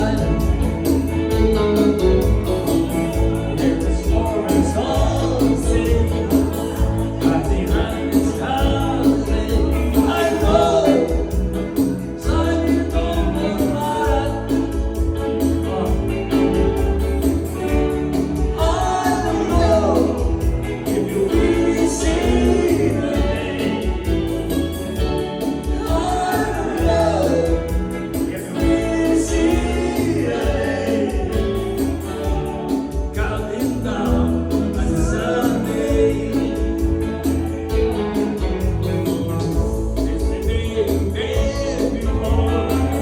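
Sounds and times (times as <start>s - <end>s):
song with singing voices: 0.0s - 43.0s.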